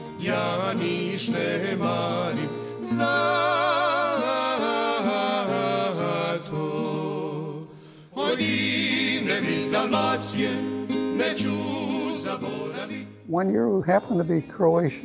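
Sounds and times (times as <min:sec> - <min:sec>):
music with vibrato melody: 0:00.0 - 0:13.3.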